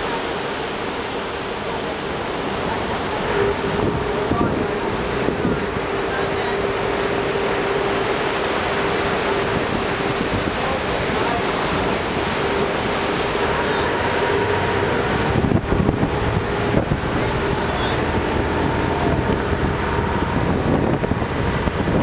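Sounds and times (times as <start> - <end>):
boat engine humming: 0.0 - 22.0
surf surging against rock: 0.0 - 22.0
wind buffeting microphone: 0.0 - 22.0.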